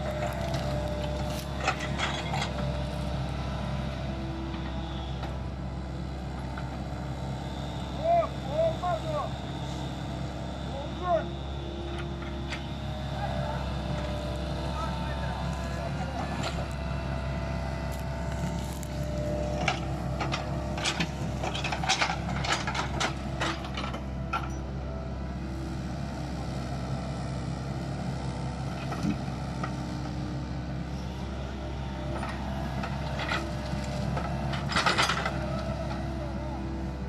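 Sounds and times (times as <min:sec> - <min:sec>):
excavator diesel engine: 0:00.0 - 0:37.0.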